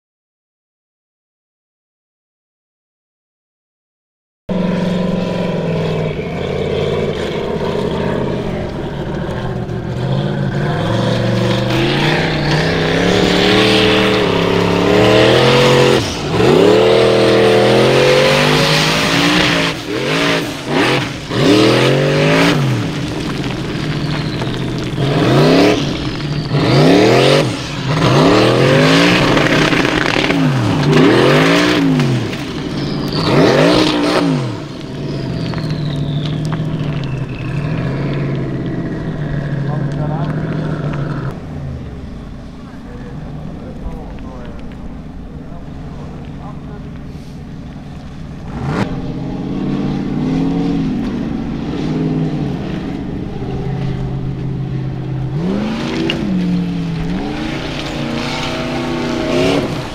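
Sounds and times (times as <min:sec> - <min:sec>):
buggy engine revving hard: 0:04.5 - 0:41.8, 0:45.9 - 0:59.9.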